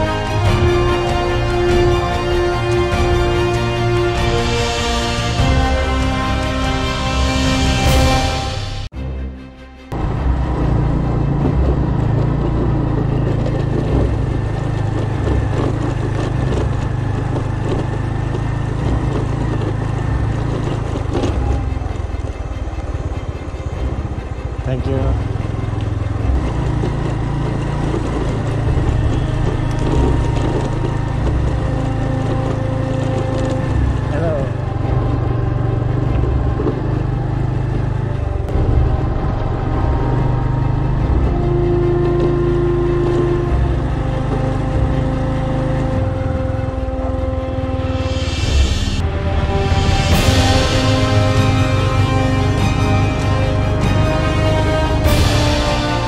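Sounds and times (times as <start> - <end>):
small engine running: 9.9 - 56.0.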